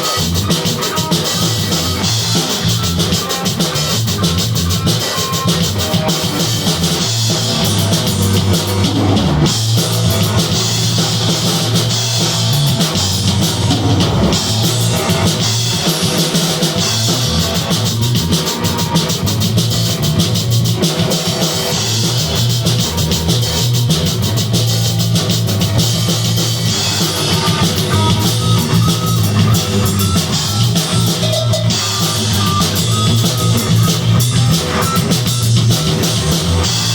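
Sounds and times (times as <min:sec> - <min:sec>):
rock band playing: 0:00.0 - 0:36.9.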